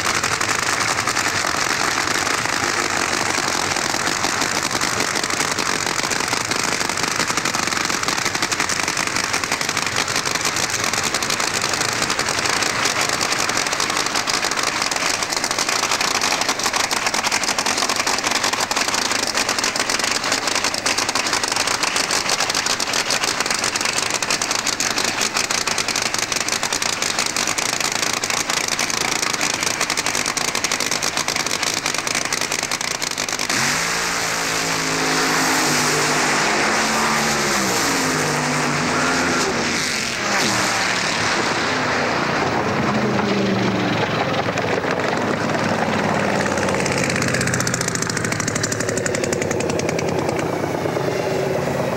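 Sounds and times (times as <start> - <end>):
loud engine idling: 0.0 - 51.9.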